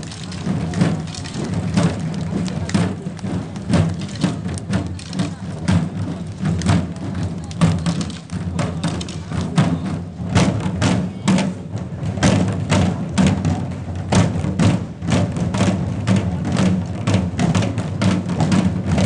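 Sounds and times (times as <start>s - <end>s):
drums beating in driving rhythm: 0.0s - 19.0s.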